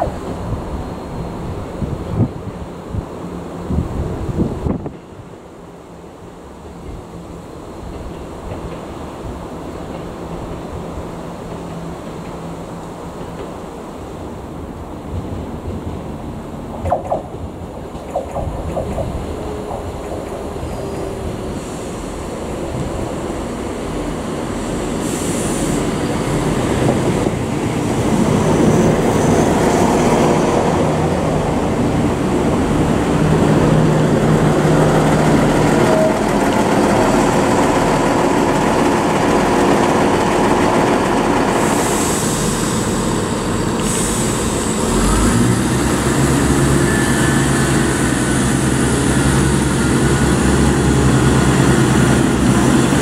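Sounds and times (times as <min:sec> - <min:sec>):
diesel train engines running: 0:00.0 - 0:53.0.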